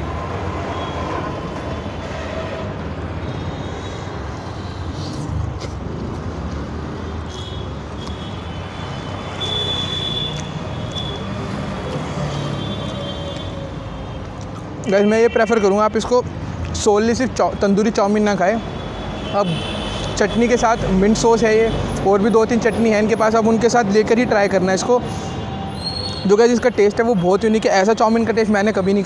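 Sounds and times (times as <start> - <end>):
road traffic hum: 0.0 - 29.0.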